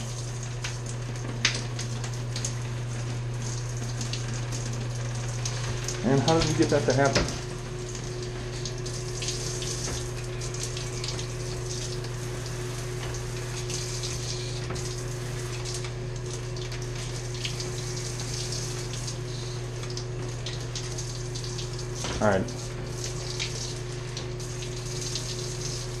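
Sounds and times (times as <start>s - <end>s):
shower water spraying: 0.0s - 26.0s.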